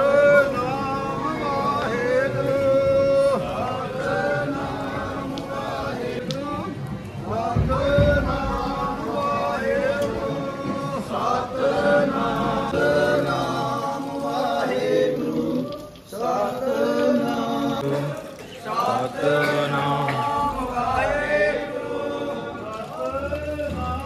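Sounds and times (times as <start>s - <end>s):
voices singing a devotional chant: 0.0s - 24.0s.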